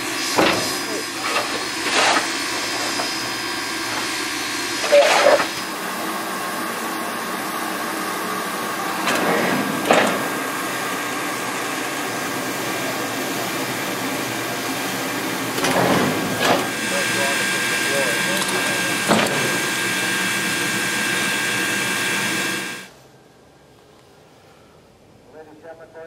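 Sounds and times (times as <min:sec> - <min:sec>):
steam locomotive hissing: 0:00.0 - 0:22.9.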